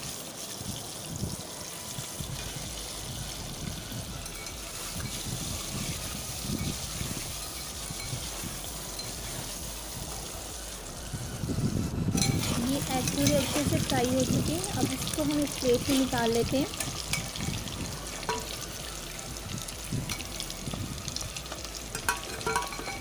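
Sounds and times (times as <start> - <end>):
oil sizzling in a pan: 0.0 - 23.0.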